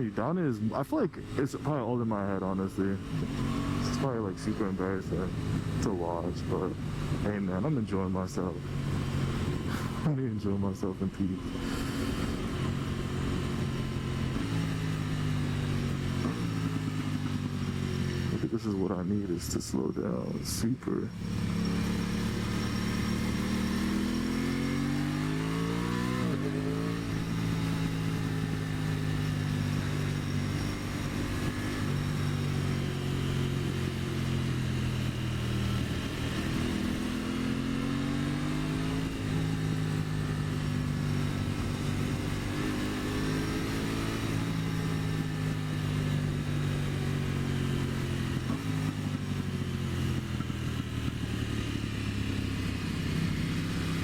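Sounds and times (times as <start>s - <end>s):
motorcycle engine running: 0.9s - 10.2s, 10.9s - 18.5s, 20.2s - 54.0s.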